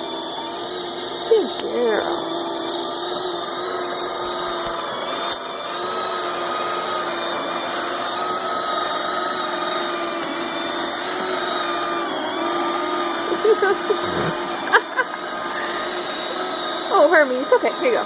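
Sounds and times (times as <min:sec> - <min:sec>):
robot vacuum motor whine: 0:00.0 - 0:18.0.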